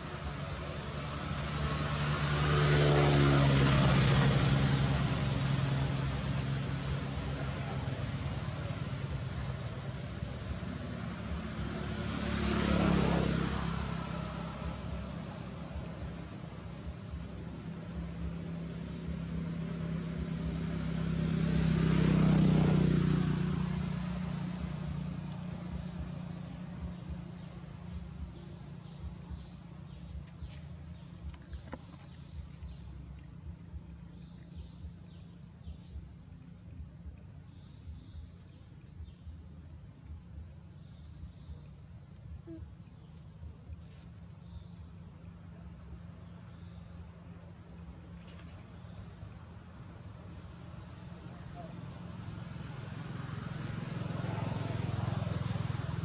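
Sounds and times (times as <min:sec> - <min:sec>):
vehicle engine passing: 0:00.0 - 0:39.3, 0:42.2 - 0:56.0
insects droning: 0:00.0 - 0:56.0.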